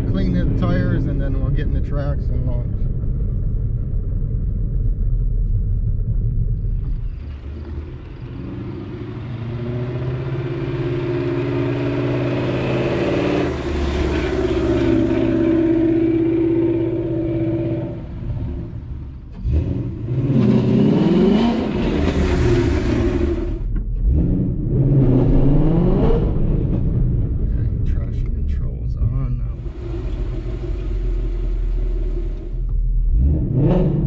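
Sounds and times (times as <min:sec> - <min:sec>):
car engine revving: 0:06.1 - 0:34.0.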